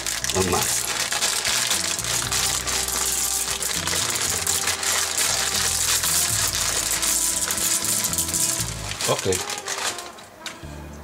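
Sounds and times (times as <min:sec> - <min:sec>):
dry pasta pattering into broth: 0:00.0 - 0:10.6
soft background music: 0:00.0 - 0:11.0.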